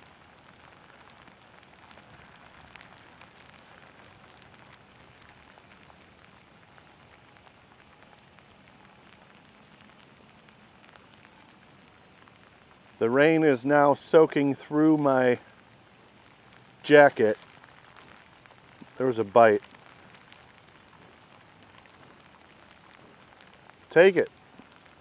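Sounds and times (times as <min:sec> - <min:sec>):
drops ticking near microphone: 0:00.0 - 0:25.0
rain on water surface: 0:00.0 - 0:25.0.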